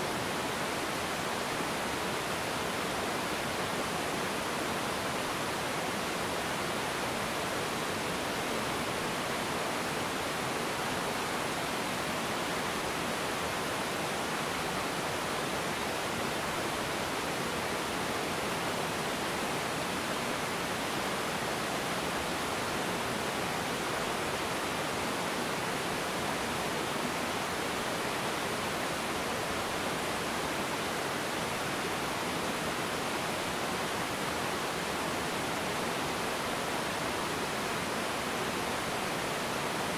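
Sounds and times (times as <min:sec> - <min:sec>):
small waterfall rushing over rocks: 0:00.0 - 0:39.9.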